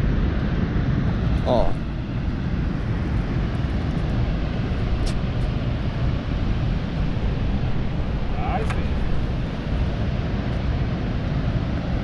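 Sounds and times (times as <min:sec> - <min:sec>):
steady low rumbling: 0:00.0 - 0:12.0.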